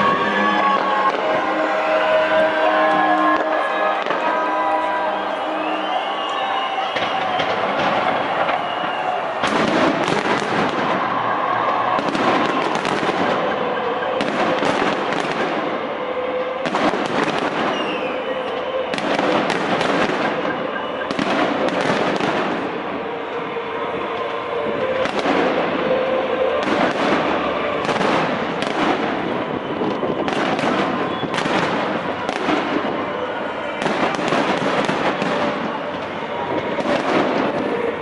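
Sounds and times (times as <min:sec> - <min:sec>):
fireworks crackle: 0:00.0 - 0:38.0.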